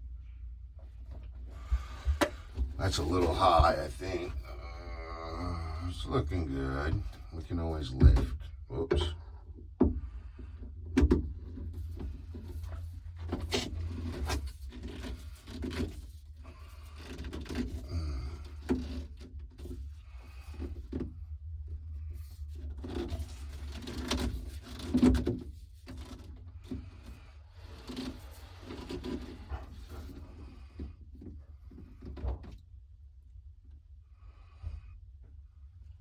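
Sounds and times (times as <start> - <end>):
low steady rumble: 0.0 - 36.0.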